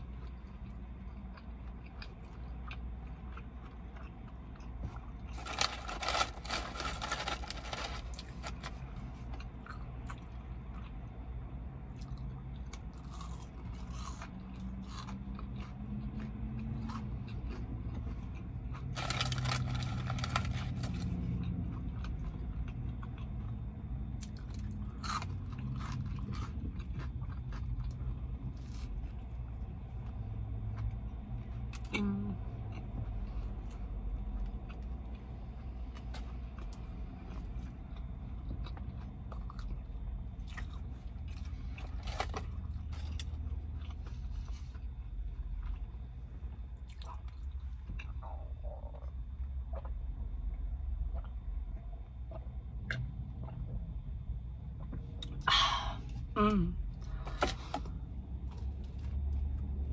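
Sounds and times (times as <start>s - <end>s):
crunchy chewing and biting: 0.0s - 55.5s
steady low hum: 0.0s - 59.9s.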